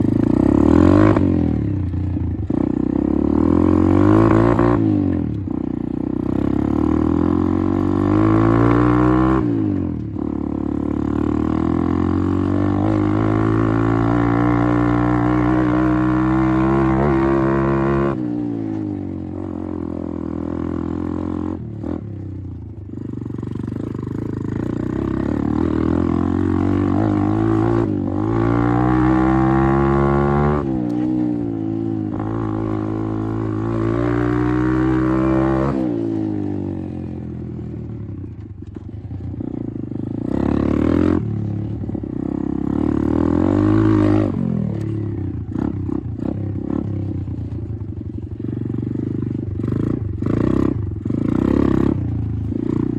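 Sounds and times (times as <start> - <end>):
dirt bike engine revving: 0.0 - 5.3, 5.9 - 22.2, 23.0 - 37.2, 38.8 - 52.9.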